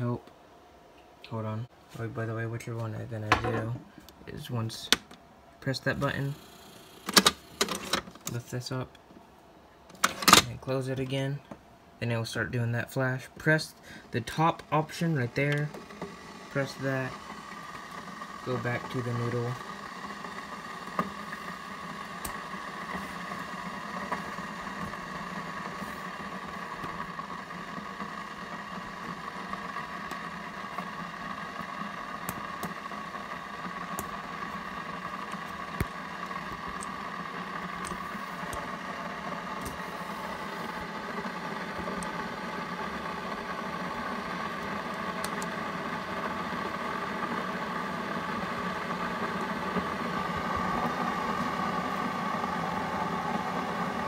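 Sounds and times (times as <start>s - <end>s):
coffee maker humming: 3.1s - 4.2s, 6.0s - 8.3s, 13.4s - 54.0s.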